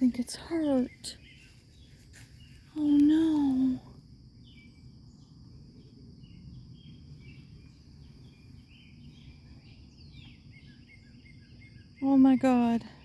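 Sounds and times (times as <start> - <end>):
birds chirping: 0.0 - 13.0
high insect drone: 0.0 - 13.0.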